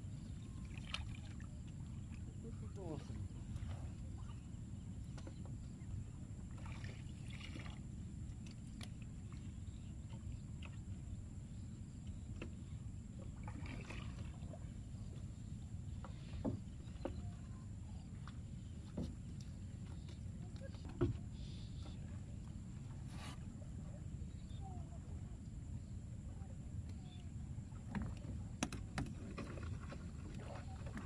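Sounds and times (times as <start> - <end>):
water sloshing around boat hull: 0.0 - 31.0.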